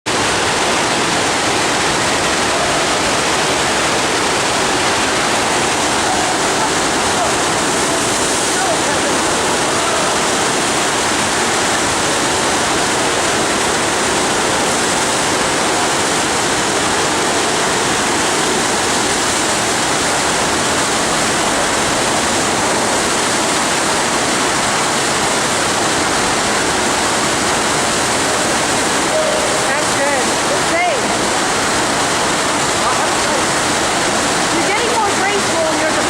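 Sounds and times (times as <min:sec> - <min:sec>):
water rushing over surface: 0:00.0 - 0:36.0.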